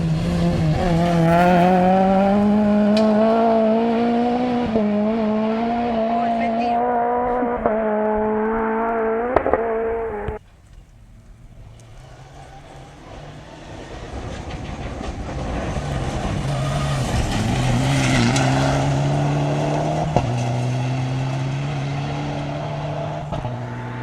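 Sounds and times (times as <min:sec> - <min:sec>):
rally car engine passing: 0:00.0 - 0:24.0.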